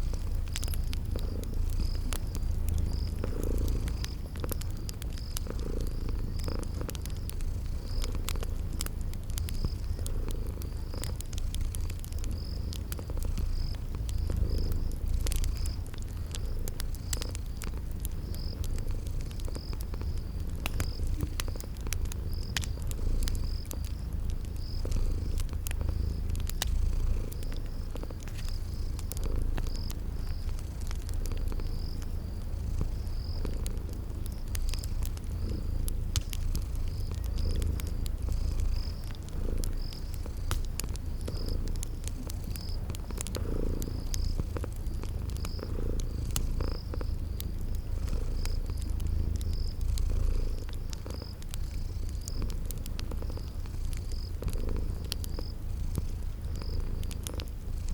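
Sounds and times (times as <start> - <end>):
cat purring: 0.0 - 57.9
crickets chirping: 0.0 - 57.9
wood fire crackling: 0.0 - 57.9.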